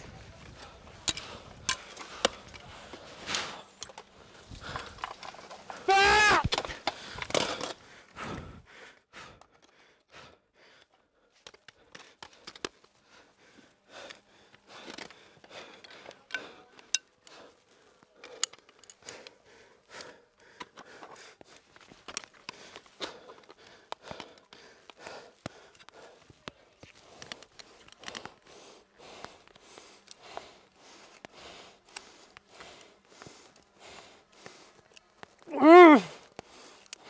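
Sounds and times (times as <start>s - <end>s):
person breathing hard: 0.3s - 37.0s.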